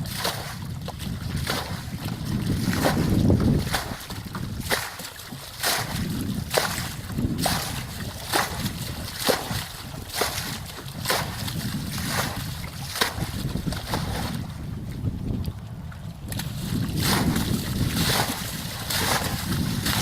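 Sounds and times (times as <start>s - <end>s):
continuous low rumble: 0.0s - 20.0s
water splashing: 0.0s - 20.0s.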